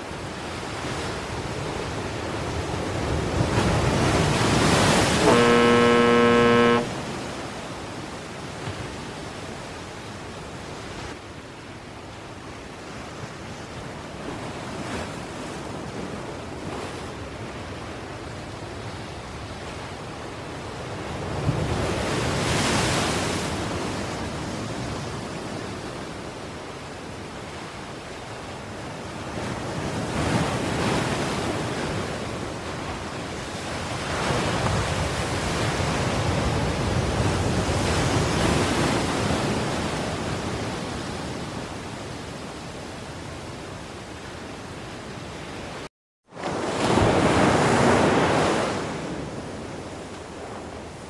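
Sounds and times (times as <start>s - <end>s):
ocean waves: 0.0s - 51.0s.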